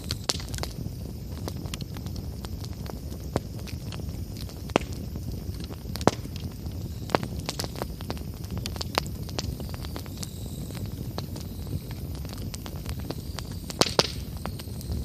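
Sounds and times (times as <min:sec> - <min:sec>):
campfire crackling: 0:00.0 - 0:15.0
sharp pops of burning wood: 0:00.0 - 0:15.0.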